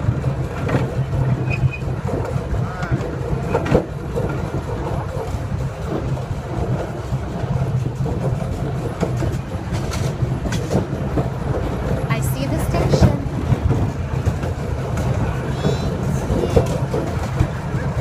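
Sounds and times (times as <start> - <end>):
miniature train rumbling on track: 0.0 - 18.0
wheels clicking on rails: 0.0 - 18.0.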